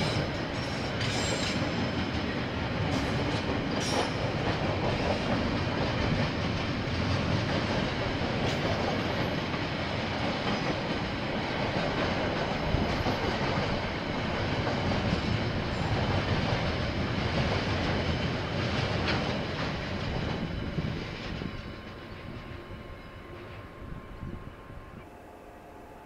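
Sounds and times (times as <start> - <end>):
train wagons rumbling over rails: 0.0 - 24.9.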